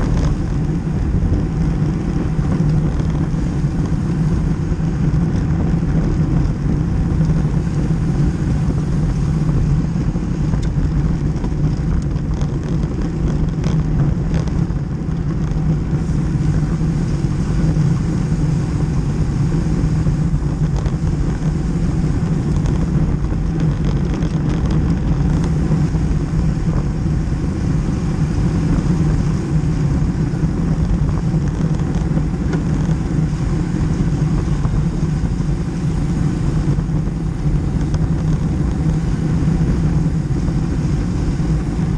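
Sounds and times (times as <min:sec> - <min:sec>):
bicycle tyre and road noise: 0:00.0 - 0:41.9
wind rush on microphone: 0:00.0 - 0:41.9.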